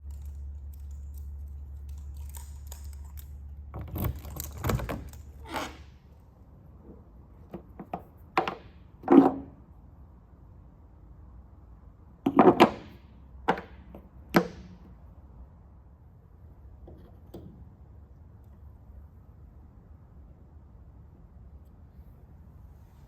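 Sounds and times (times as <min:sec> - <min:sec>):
steady low hum: 0:00.0 - 0:12.3, 0:13.0 - 0:23.0.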